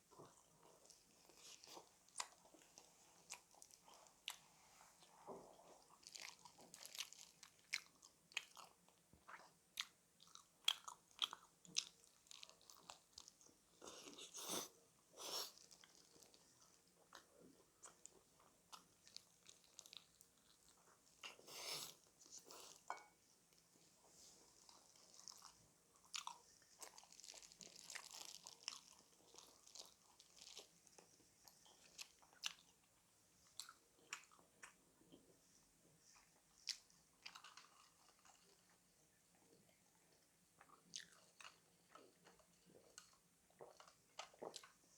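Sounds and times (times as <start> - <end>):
crunchy chewing of food: 0.1 - 35.3, 36.1 - 44.9.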